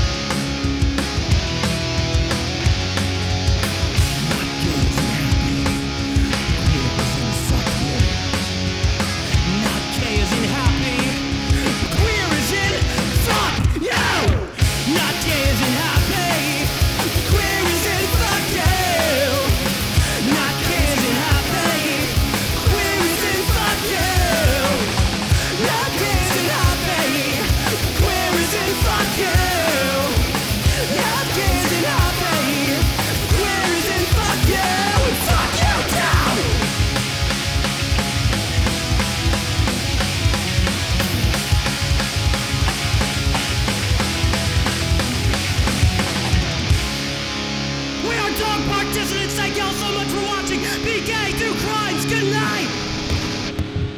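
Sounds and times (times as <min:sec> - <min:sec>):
pounding drum beat: 0:00.0 - 0:47.1
punk rock band playing: 0:00.0 - 0:53.9.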